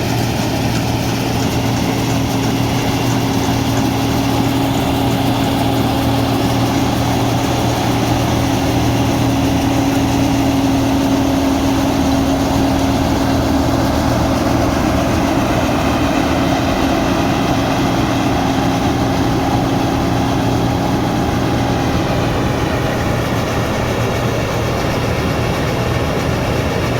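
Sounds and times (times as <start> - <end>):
combine harvester droning: 0.0 - 26.9.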